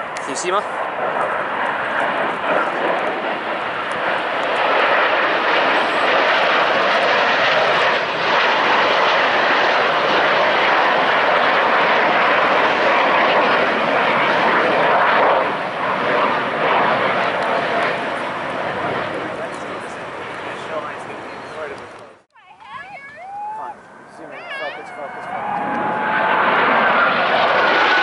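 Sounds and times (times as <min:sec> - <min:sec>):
jet roar passing overhead: 0:00.0 - 0:22.3, 0:23.2 - 0:28.0.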